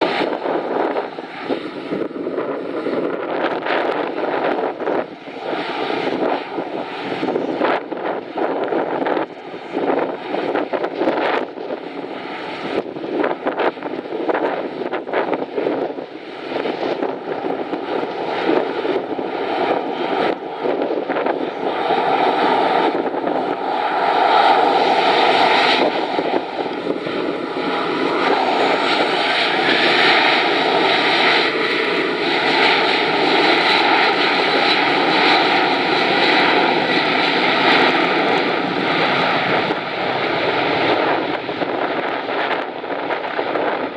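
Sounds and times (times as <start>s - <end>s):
jet engines at takeoff: 0.0s - 43.9s.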